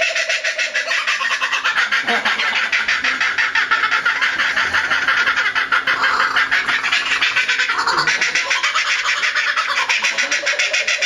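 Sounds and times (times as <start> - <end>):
kookaburra calling: 0.0 - 11.0.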